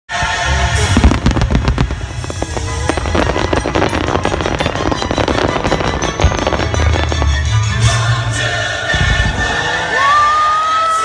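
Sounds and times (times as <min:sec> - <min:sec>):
fireworks bangs and crackling: 0:00.2 - 0:09.5
low rumble: 0:00.6 - 0:09.5.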